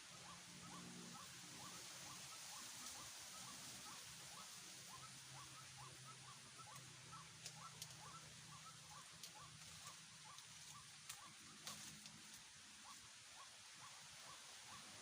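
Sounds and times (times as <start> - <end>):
faint repeated animal call: 0.0 - 15.0.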